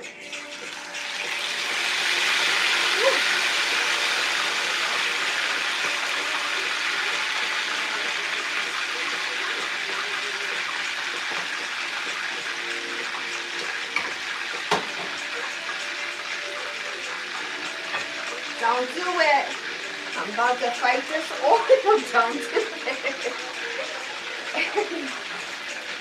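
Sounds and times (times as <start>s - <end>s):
chicken frying in hot oil: 0.0s - 26.0s.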